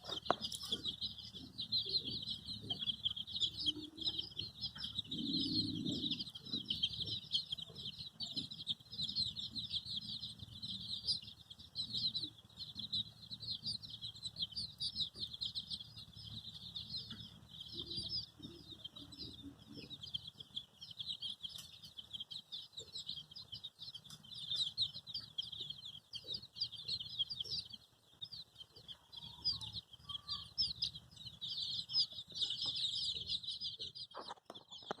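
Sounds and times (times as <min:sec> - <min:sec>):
baby chicks peeping: 0:00.0 - 0:35.0.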